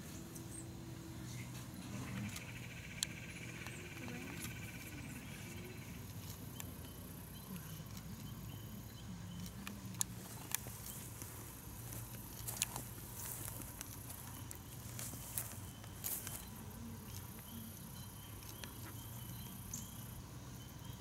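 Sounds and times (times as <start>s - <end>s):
faint low murmur: 0.0s - 21.0s.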